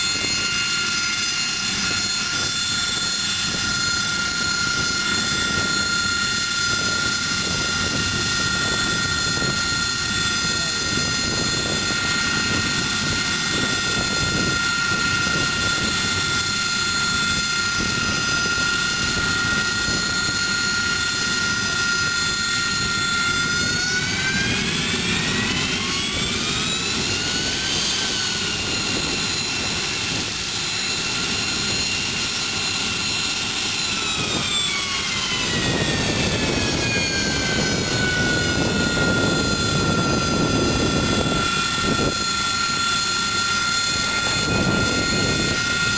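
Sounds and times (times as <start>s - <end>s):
aircraft turbine engine whine: 0.0s - 45.9s.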